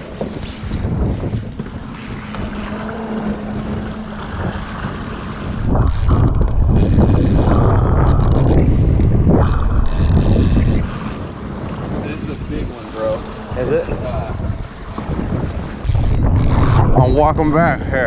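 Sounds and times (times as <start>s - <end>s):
motorboat engine hum: 0.0s - 18.0s
wind noise on microphone: 0.0s - 18.0s.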